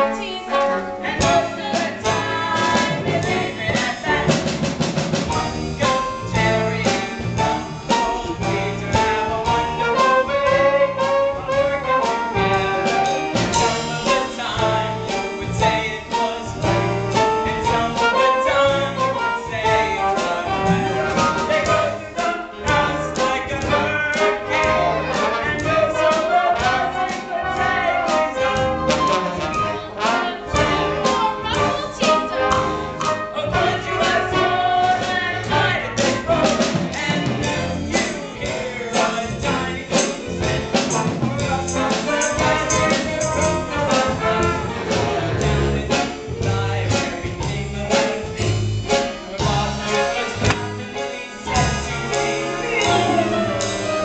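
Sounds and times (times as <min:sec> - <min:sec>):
people singing: 0:00.0 - 0:54.0
upbeat show-tune music: 0:00.0 - 0:54.0.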